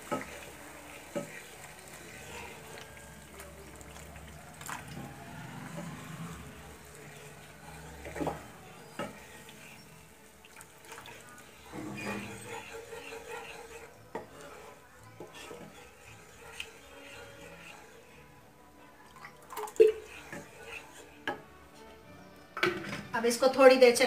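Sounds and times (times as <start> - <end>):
spatula stirring sauce in pan: 0.0 - 21.8.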